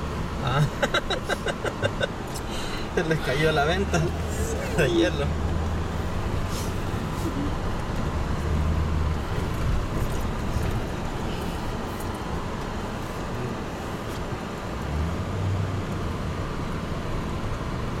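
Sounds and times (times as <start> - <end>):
low engine hum: 0.0 - 18.0
road and tyre noise: 0.0 - 18.0.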